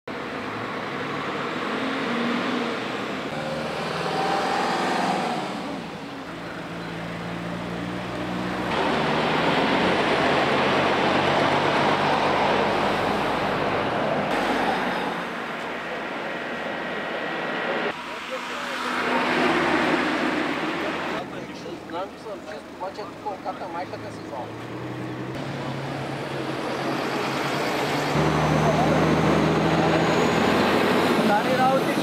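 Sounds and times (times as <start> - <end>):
road traffic noise: 0.1 - 32.0.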